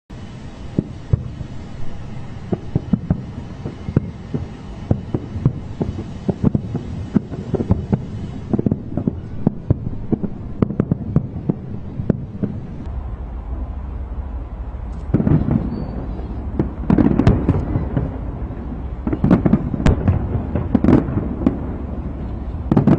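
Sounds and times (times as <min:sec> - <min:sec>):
fireworks booming: 0:00.1 - 0:22.9
low rumble: 0:00.1 - 0:22.9.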